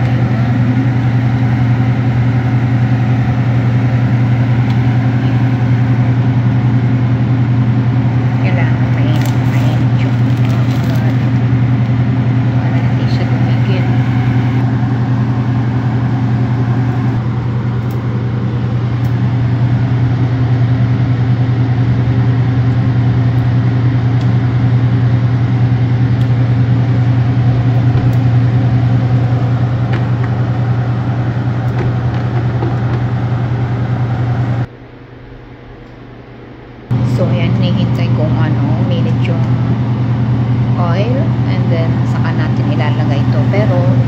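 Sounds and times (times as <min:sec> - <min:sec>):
low motor hum: 0:00.0 - 0:44.0.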